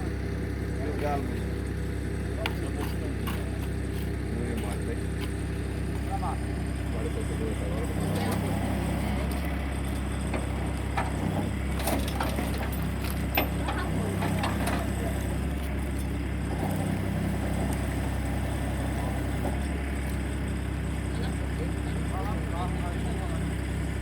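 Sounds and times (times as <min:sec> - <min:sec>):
low motor drone: 0:00.0 - 0:24.0.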